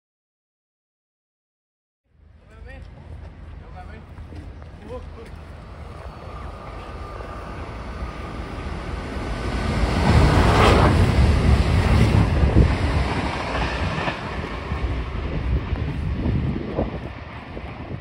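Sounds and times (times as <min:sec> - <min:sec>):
diesel train passing: 0:02.1 - 0:18.0.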